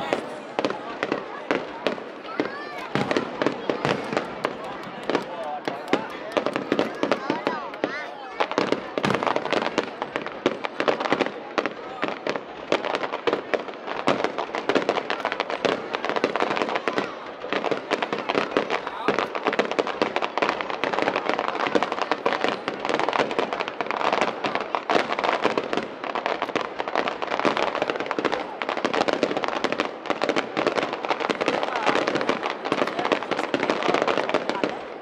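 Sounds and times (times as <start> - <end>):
fireworks bursts and bangs: 0.0 - 35.0
fireworks crackling: 0.0 - 35.0.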